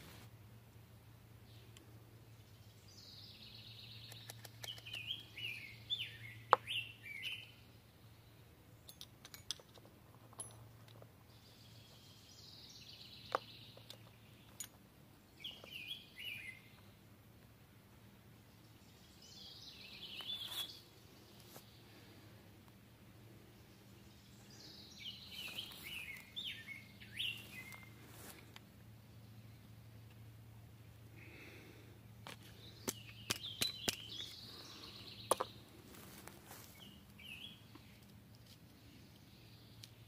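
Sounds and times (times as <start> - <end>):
songbirds chirping: 0.0 - 40.0.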